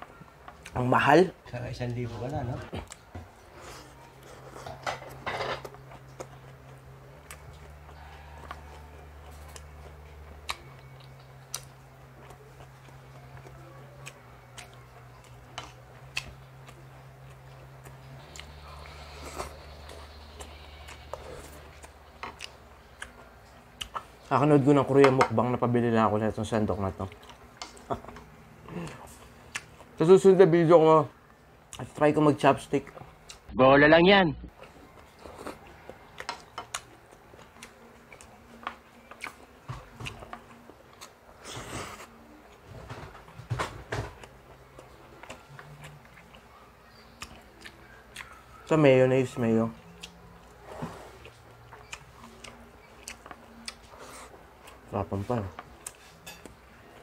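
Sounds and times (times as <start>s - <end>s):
person chewing food: 2.2s - 25.2s, 26.4s - 30.0s, 34.5s - 57.0s.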